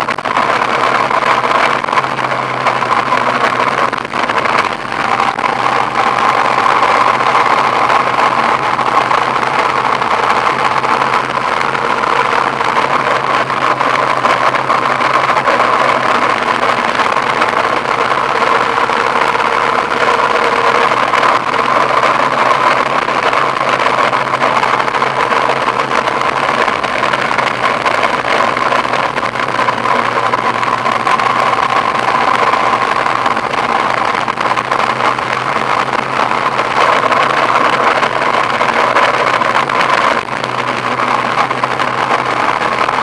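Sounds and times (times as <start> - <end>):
car engine running: 0.0 - 43.0
road noise: 0.0 - 43.0.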